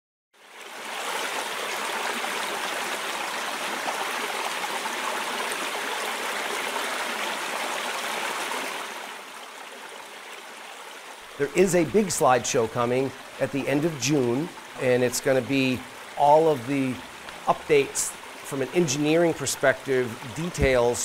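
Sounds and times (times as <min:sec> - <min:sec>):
water rushing over spillway: 0:00.4 - 0:21.0.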